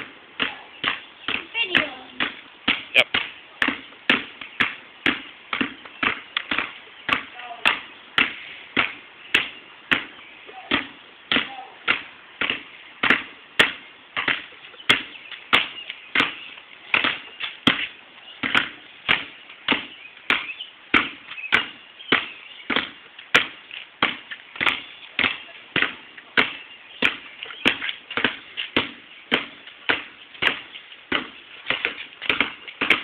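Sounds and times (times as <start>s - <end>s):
basketballs bouncing on concrete: 0.0s - 33.0s.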